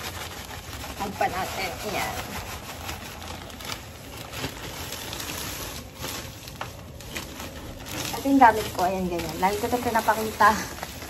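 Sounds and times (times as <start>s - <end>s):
soil pouring and rustling: 0.0s - 11.0s.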